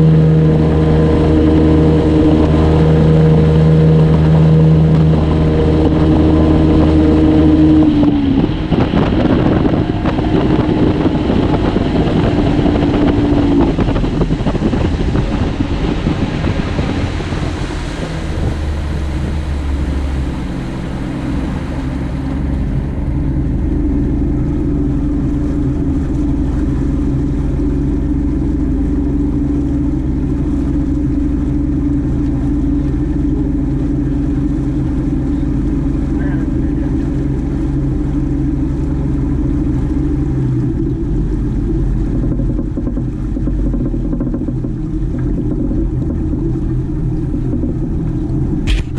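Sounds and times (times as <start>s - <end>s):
outboard motor running: 0.0s - 48.9s
wind and water rushing: 0.0s - 48.9s.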